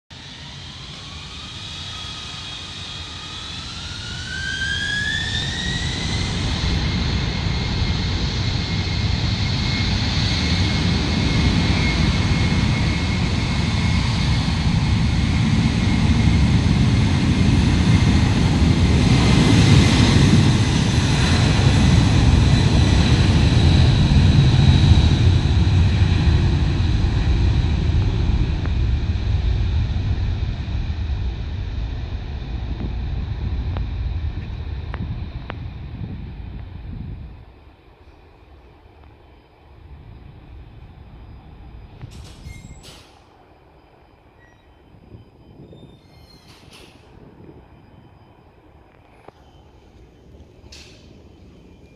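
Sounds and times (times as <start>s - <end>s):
jet engines whining: 0.1s - 51.9s.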